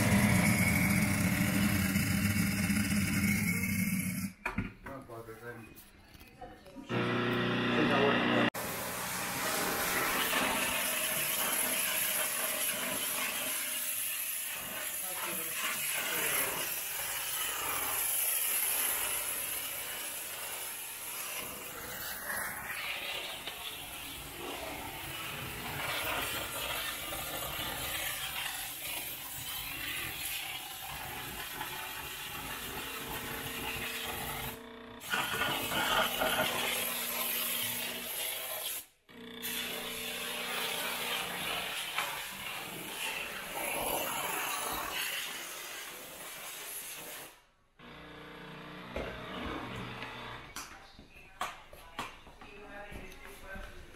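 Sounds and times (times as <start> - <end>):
steam cleaner hissing: 0.0 - 4.3, 7.8 - 47.4.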